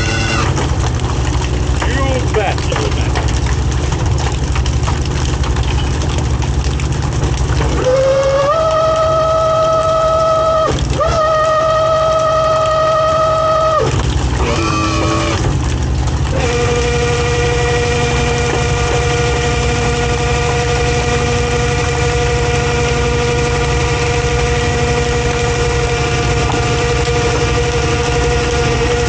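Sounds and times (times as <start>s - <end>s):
boat engine running: 0.0s - 29.0s
steady whine: 0.0s - 29.0s.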